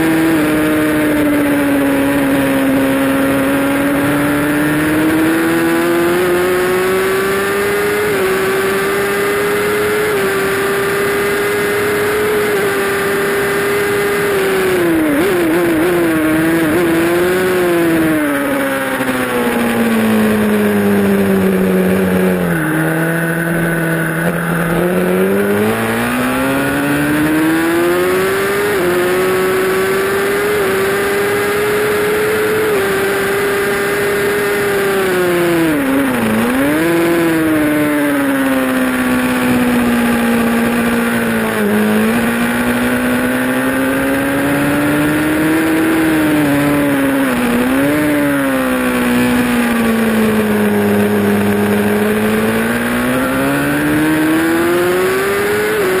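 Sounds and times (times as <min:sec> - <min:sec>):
motorcycle engine revving: 0:00.0 - 0:56.0
wind rushing over motorcycle: 0:00.0 - 0:56.0.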